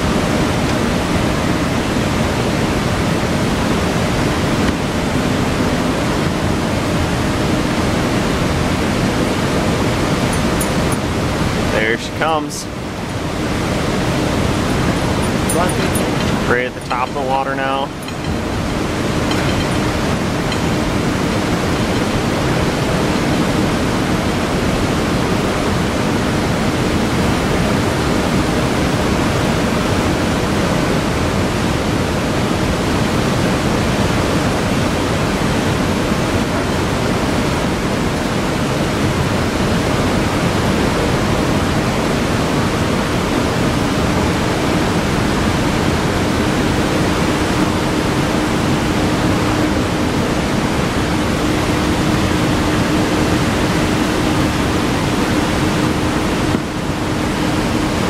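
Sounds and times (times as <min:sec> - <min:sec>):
faint steady hum: 0:00.0 - 0:58.0
water rushing through spillway: 0:00.0 - 0:58.0.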